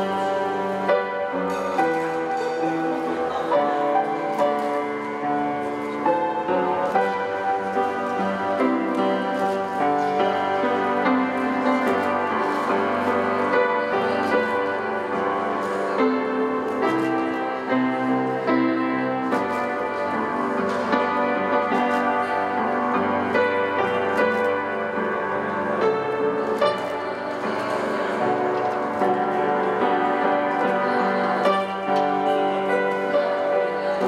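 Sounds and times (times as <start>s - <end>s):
piano melody over chords: 0.0s - 34.0s.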